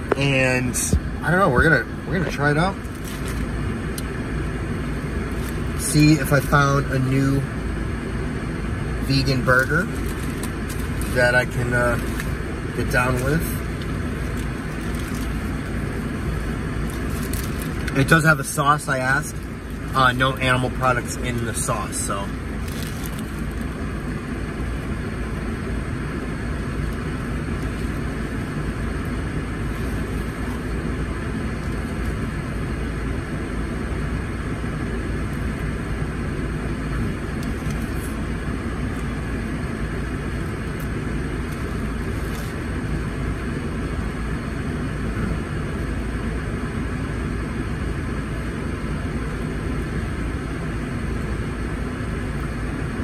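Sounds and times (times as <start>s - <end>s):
low hum inside car cabin: 0.0s - 53.0s.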